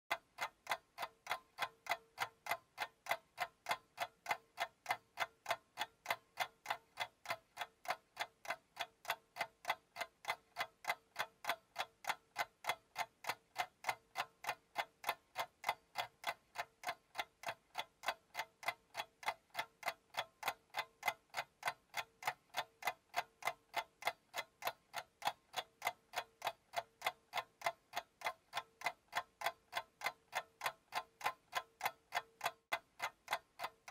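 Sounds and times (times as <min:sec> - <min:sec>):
timer clock ticking: 0:00.1 - 0:33.9.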